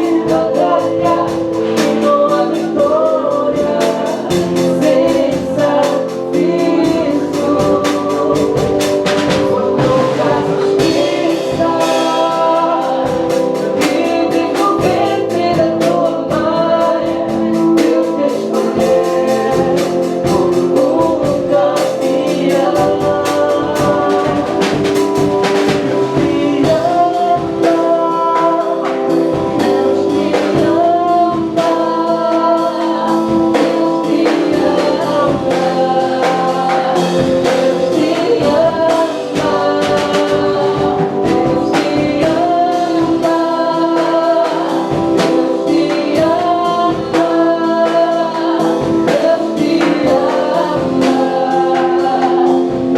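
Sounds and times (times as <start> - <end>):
band song with singer: 0.0 - 52.9.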